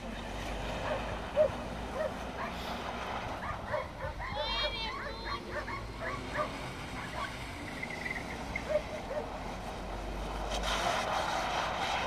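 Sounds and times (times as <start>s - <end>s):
distant car engine and tyres on snow: 0.0s - 12.0s.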